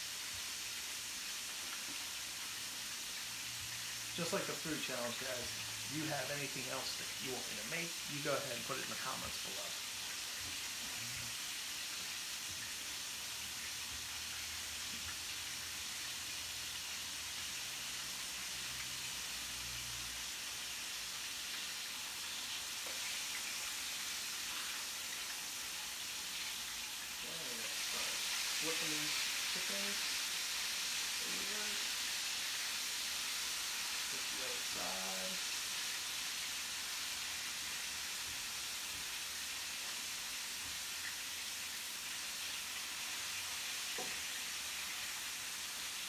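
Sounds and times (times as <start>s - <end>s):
chicken sizzling in a skillet: 0.0s - 46.0s.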